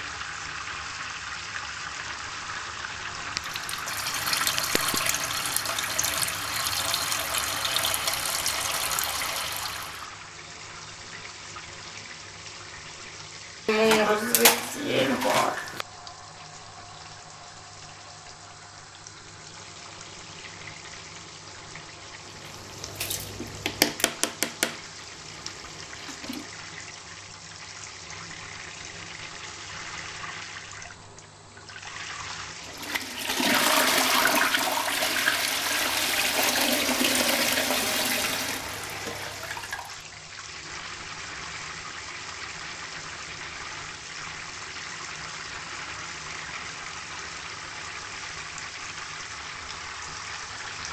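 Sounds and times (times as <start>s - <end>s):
steady water sound: 0.0s - 50.9s
toilet flushing: 0.0s - 50.9s.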